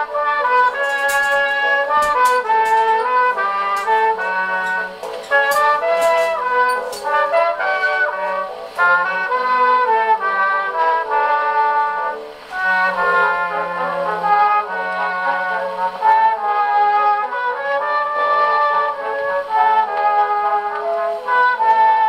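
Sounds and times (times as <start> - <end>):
gramophone brass music: 0.0 - 22.0.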